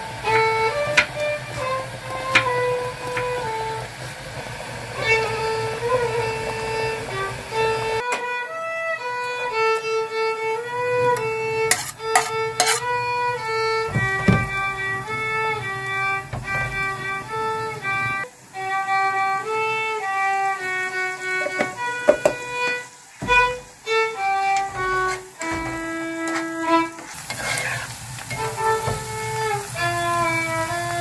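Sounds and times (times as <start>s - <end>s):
solo violin melody: 0.0s - 31.0s.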